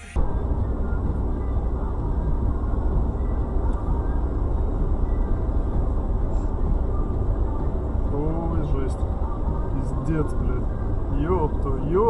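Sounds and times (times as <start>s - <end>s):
car driving on snow: 0.0s - 12.0s.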